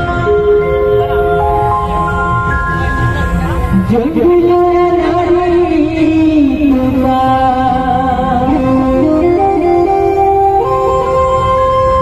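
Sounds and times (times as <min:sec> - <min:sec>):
electronic keyboard melody: 0:00.0 - 0:05.5, 0:07.8 - 0:12.0.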